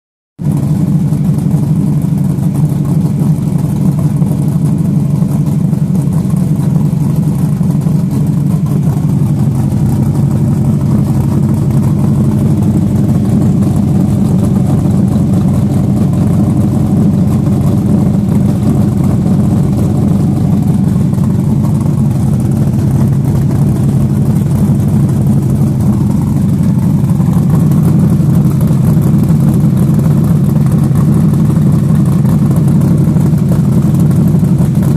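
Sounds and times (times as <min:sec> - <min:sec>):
car engine idling: 0:00.4 - 0:34.9.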